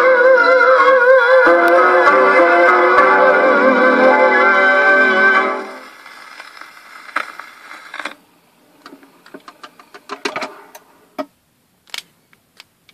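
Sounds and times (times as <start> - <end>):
gramophone record music: 0.0 - 11.4
record surface hiss: 0.0 - 12.9.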